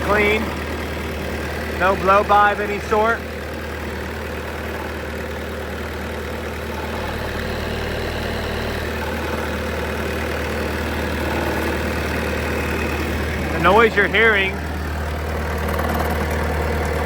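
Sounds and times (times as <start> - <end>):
diesel engine idling: 0.0 - 17.0
small mechanical noise: 0.0 - 17.0.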